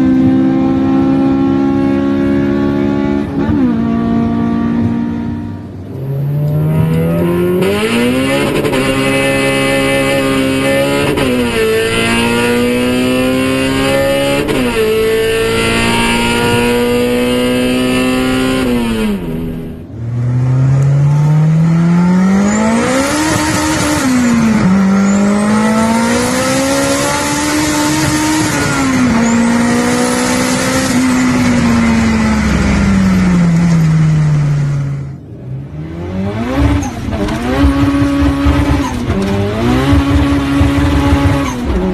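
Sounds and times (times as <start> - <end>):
car engine accelerating hard: 0.0 - 41.9.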